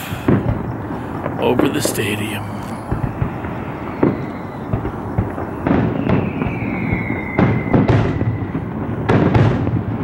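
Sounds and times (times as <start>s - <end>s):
distant fireworks booming and crackling: 0.0s - 10.0s.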